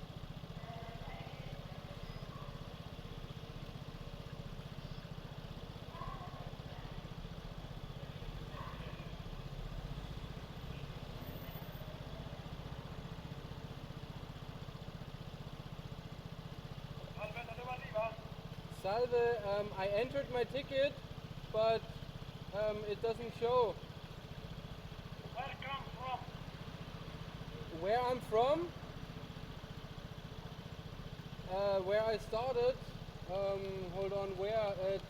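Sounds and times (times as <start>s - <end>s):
scooter engine idling: 0.0s - 35.0s.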